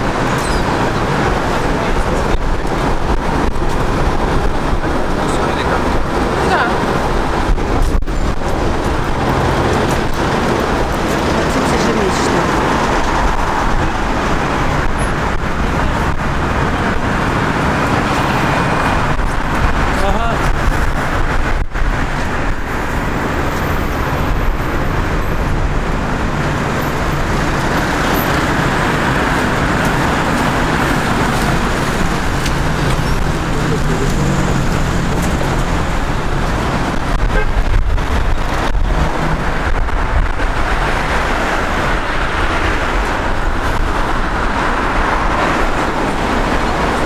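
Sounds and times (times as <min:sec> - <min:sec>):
cars passing on road: 0:00.0 - 0:47.0.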